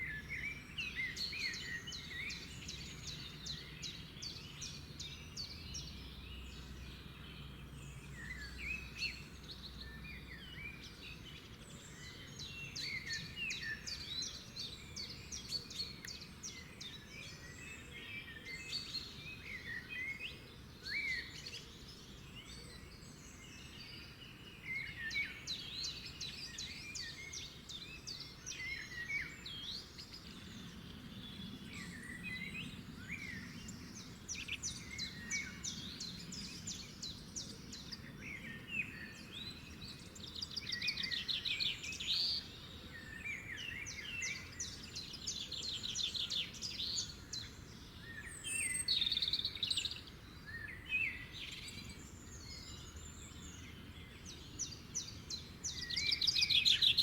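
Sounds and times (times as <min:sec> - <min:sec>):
songbirds singing and trilling: 0:00.0 - 0:57.0.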